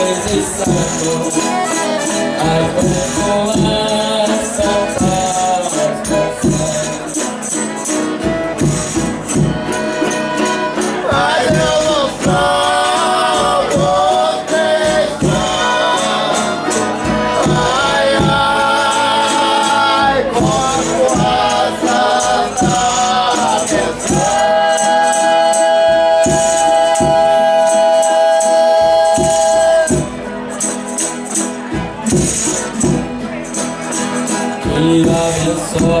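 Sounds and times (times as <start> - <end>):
group singing in harmony: 0.0 - 7.2, 8.6 - 30.3, 34.2 - 36.0
tambourine beats: 0.0 - 36.0.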